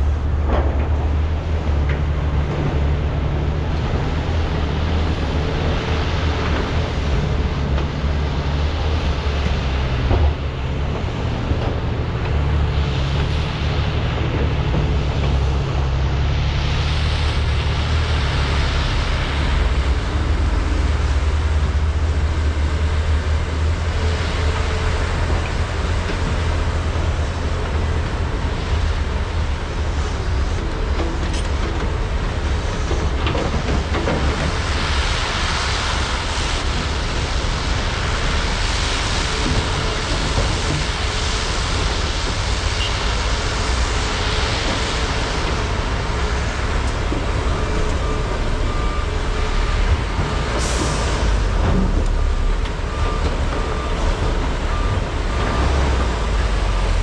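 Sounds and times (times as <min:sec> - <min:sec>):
excavator diesel engines droning: 0:00.0 - 0:57.0.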